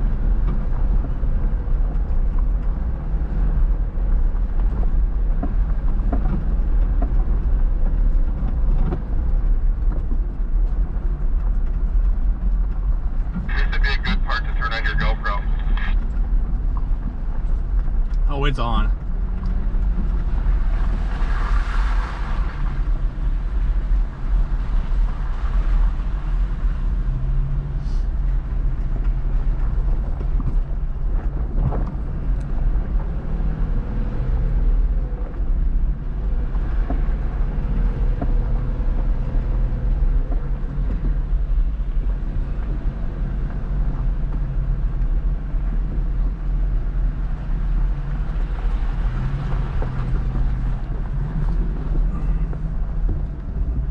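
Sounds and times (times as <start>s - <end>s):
vehicle engine rumbling: 0.0s - 53.9s.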